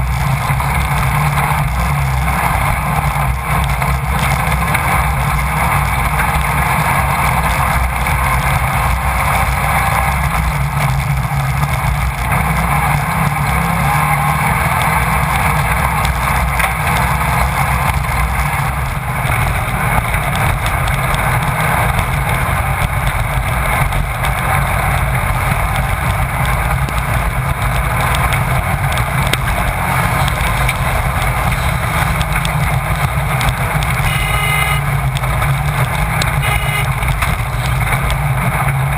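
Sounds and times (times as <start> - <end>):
buggy engine running hard: 0.0 - 38.9.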